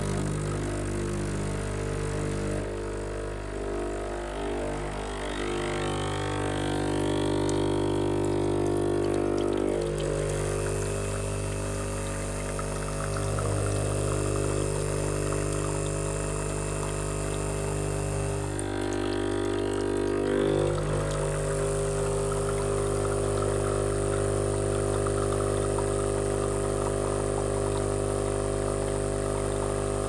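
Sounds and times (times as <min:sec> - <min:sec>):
espresso machine buzzing: 0:00.0 - 0:30.0.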